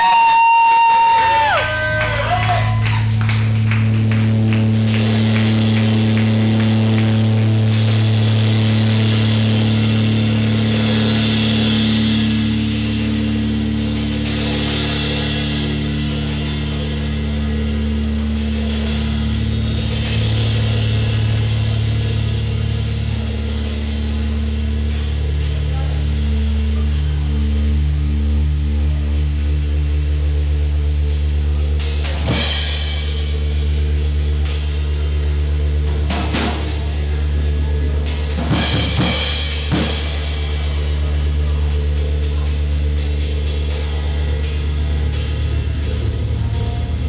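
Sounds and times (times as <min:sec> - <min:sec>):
drums and cymbal wash: 0:00.0 - 0:47.0
electric bass low notes: 0:00.0 - 0:47.0.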